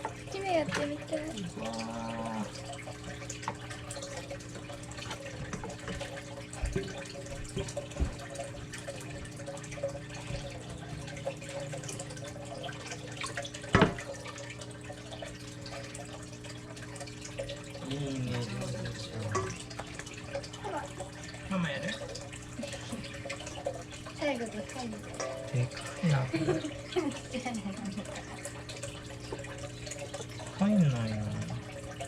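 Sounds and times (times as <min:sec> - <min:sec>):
aquarium water trickling: 0:00.0 - 0:32.0
steady hum: 0:00.0 - 0:32.0.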